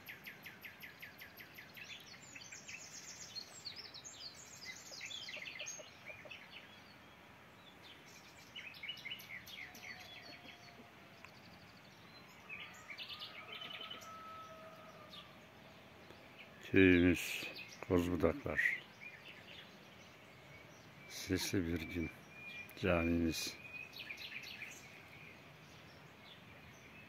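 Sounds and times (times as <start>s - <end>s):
faint long level calls: 0.0s - 27.0s
outdoor background hiss: 0.0s - 27.0s
small birds singing: 0.0s - 27.0s.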